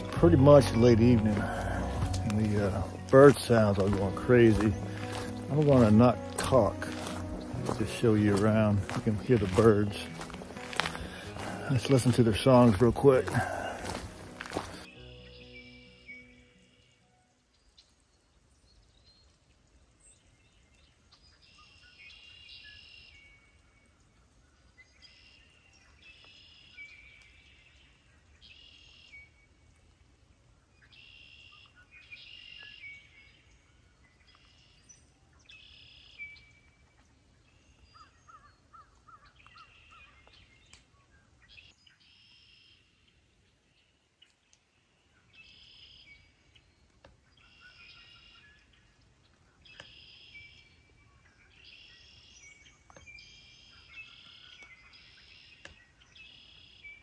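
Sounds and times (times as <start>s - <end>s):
wetland birds singing: 0.0s - 57.0s.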